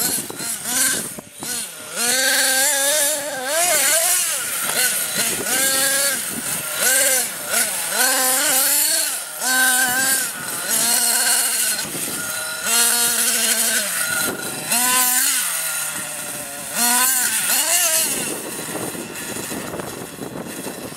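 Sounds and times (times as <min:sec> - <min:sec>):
rc truck engine revving: 0:00.0 - 0:20.9.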